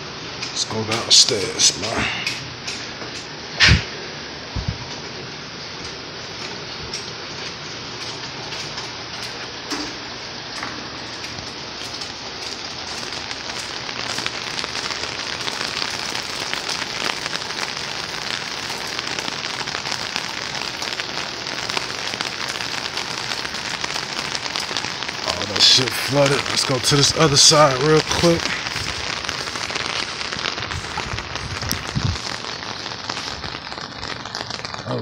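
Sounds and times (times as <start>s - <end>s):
heavy rain on hard surfaces: 0.0s - 35.0s.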